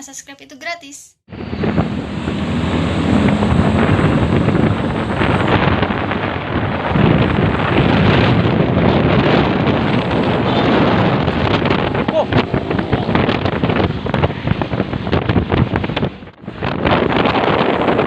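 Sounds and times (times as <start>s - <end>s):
heavy truck engine running: 1.3s - 17.8s
wind buffeting on microphone: 1.3s - 18.0s.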